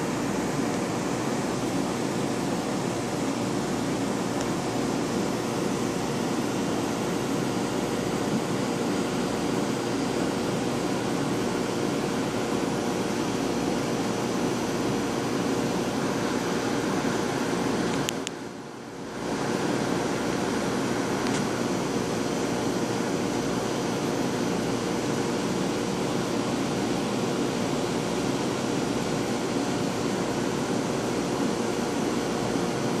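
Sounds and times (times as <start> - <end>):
aquarium pumps whirring: 0.0 - 33.0.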